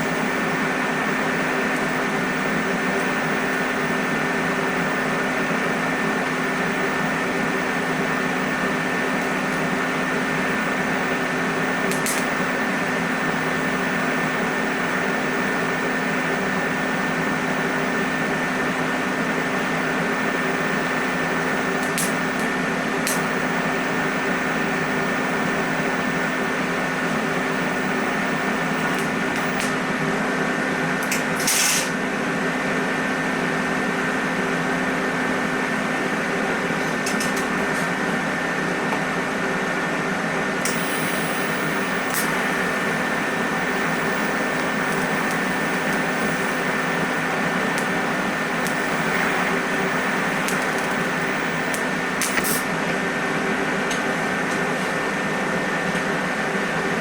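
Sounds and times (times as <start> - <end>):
electrical machine hum: 0.0 - 57.0.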